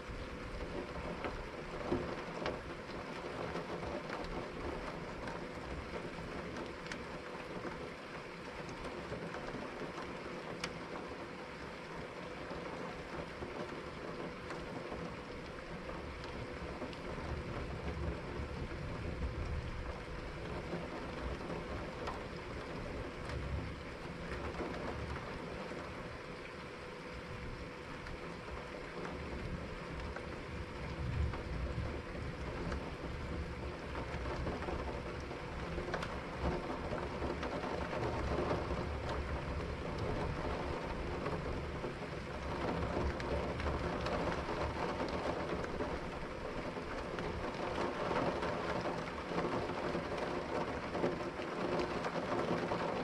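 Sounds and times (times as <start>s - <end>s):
raindrop taps: 0.0s - 53.0s
steady rain falling: 0.0s - 53.0s.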